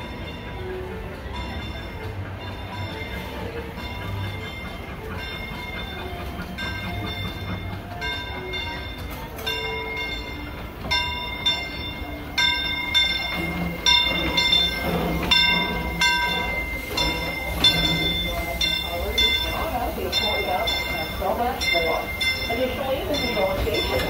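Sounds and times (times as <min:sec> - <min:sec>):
locomotive bell ringing: 0:00.0 - 0:24.0
low rumble of train: 0:00.0 - 0:24.0.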